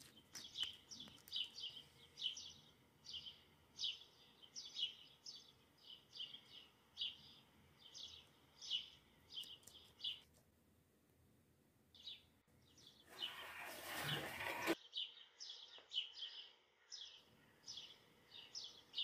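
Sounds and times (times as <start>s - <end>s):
small bird chirping: 0.0s - 10.3s, 11.9s - 19.0s.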